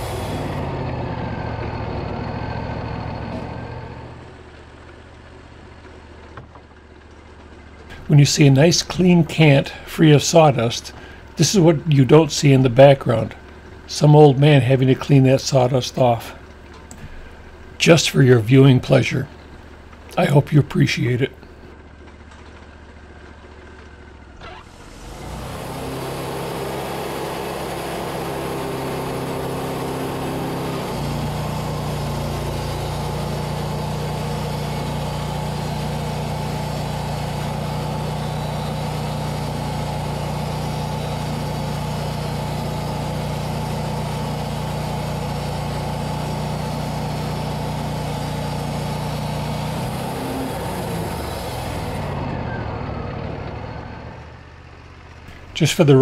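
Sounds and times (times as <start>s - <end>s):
bandsaw sawmill engine: 0.0s - 56.0s.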